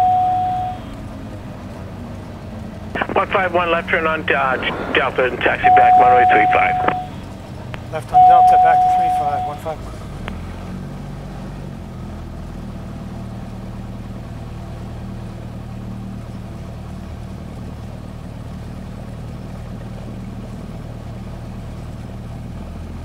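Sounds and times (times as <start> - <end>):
aircraft engine and propeller running: 0.0 - 23.0.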